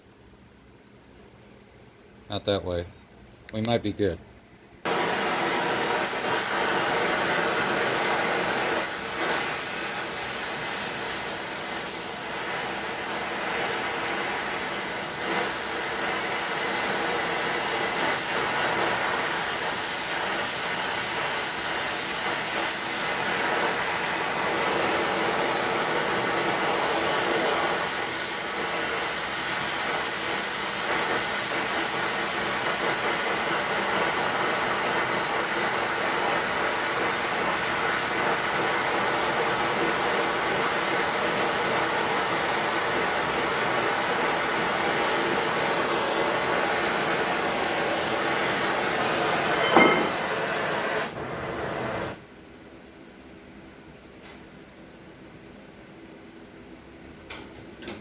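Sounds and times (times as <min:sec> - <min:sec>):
machine whirring hiss: 0:00.0 - 0:57.0.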